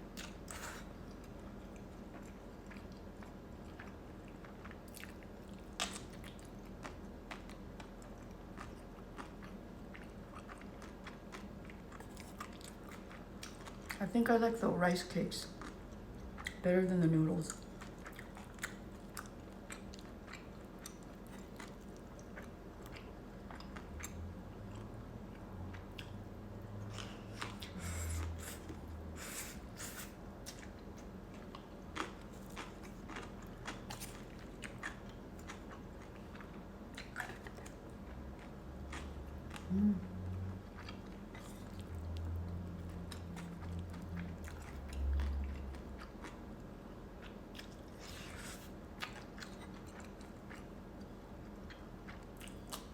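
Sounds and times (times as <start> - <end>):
person chewing food: 0.1 - 14.0, 15.5 - 16.6, 17.5 - 52.9.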